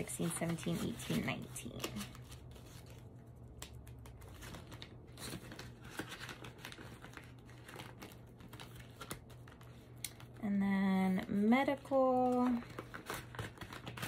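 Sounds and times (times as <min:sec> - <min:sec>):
paper and plastic crinkling: 0:00.0 - 0:10.4, 0:11.7 - 0:14.0.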